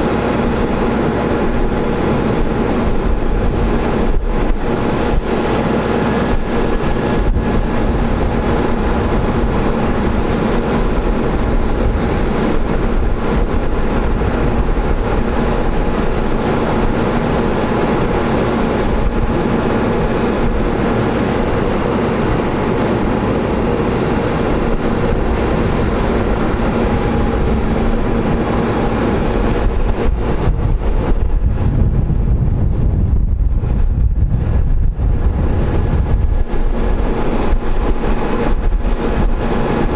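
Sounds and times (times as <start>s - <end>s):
deeper rumble: 0.0s - 39.9s
diesel engine humming with whine: 0.0s - 39.9s.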